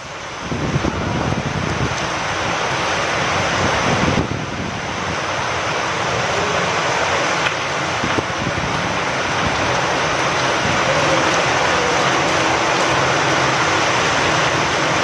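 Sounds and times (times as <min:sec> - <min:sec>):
gusting wind rumble: 0:00.0 - 0:15.0
steady rain hissing: 0:00.0 - 0:15.0.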